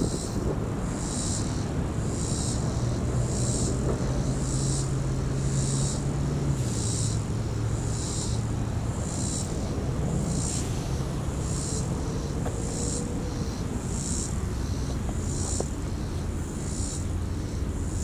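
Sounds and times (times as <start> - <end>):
insects buzzing in pulses: 0.0 - 18.0
low steady hum and rumble: 0.0 - 18.0.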